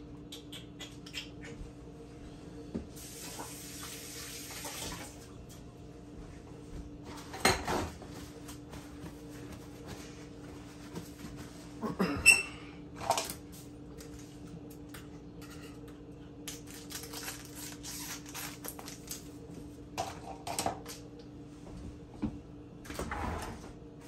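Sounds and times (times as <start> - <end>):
steady low hum: 0.0 - 3.5, 5.0 - 24.0.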